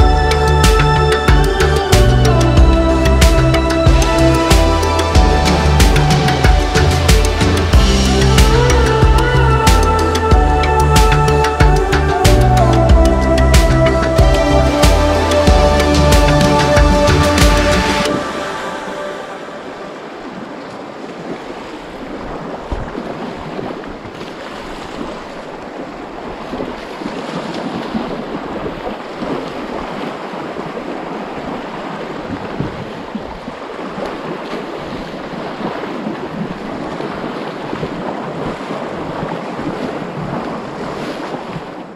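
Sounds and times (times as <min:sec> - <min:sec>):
river water rushing over rocks: 0:00.0 - 0:41.9
wind buffeting microphone: 0:00.0 - 0:41.9.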